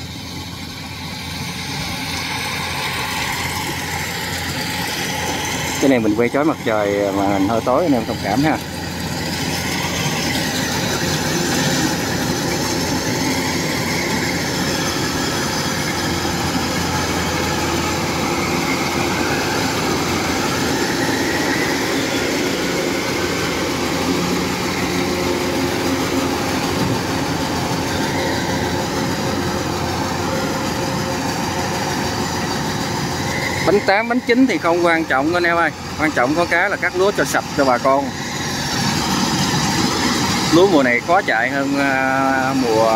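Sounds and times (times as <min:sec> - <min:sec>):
combine harvester droning: 0:00.0 - 0:42.9.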